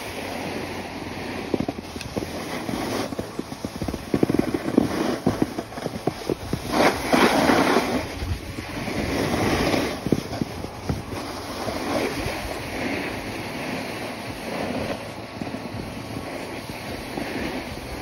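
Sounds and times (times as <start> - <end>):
snowboard scraping over snow: 0.0 - 18.0
wind on microphone: 0.0 - 18.0.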